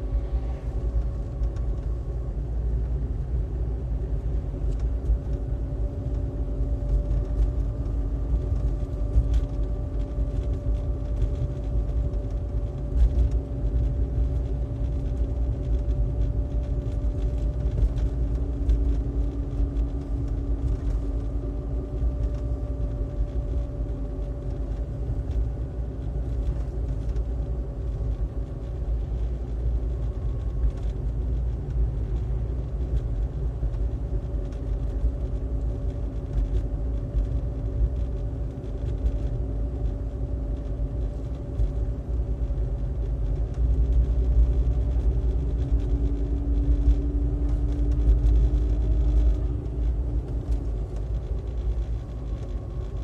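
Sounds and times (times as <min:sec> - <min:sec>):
car engine hum: 0:00.0 - 0:53.0
road noise: 0:00.0 - 0:53.0.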